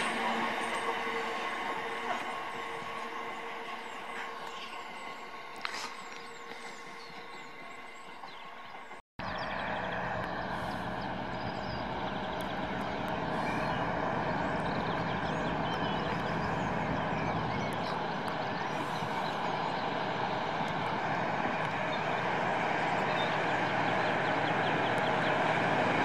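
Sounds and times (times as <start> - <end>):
birds chirping: 0.0 - 26.0
diesel locomotive engine running: 0.0 - 26.0.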